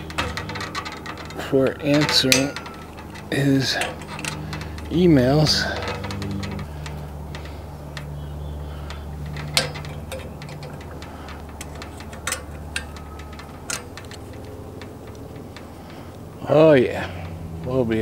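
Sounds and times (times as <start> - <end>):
low hum: 0.0 - 18.0
pliers clicking on metal bolts: 0.0 - 18.0.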